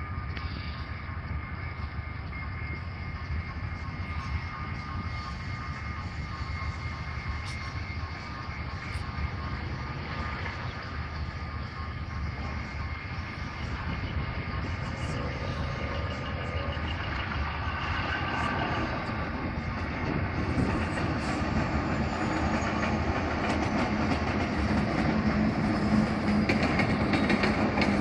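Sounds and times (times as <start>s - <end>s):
low locomotive engine drone: 0.0s - 28.0s
train engine and wheel noise: 0.0s - 28.0s.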